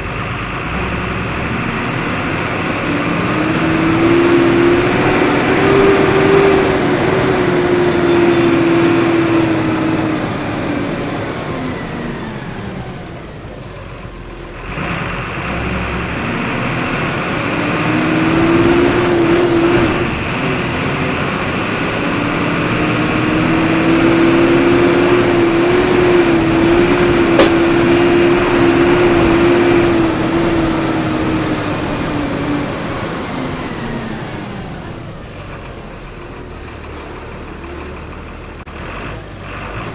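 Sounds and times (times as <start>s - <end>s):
bus engine hum from inside: 0.0s - 39.9s.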